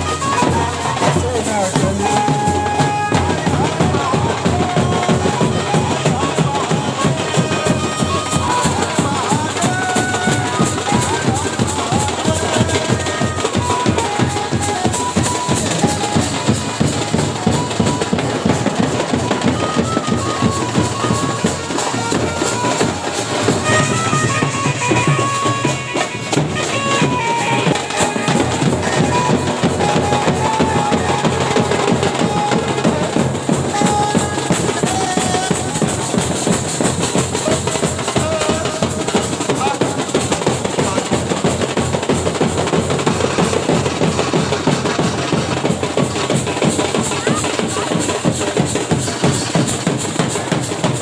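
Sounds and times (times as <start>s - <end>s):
loud music with heavy drum beat: 0.0s - 51.0s.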